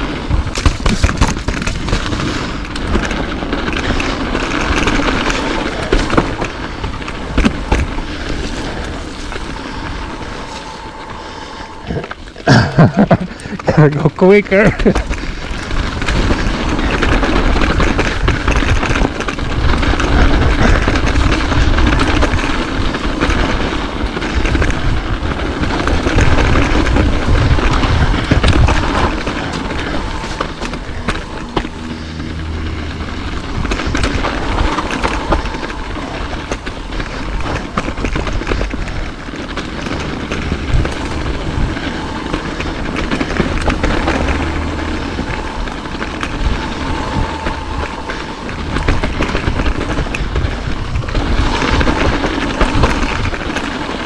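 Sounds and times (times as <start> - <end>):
bike rattling and knocking: 0.0 - 54.0
bike tyres on dirt: 0.0 - 54.0
wind rumbling on microphone: 0.0 - 54.0.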